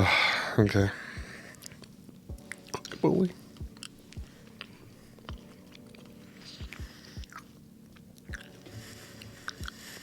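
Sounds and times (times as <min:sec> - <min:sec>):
person chewing: 0:01.5 - 0:10.0.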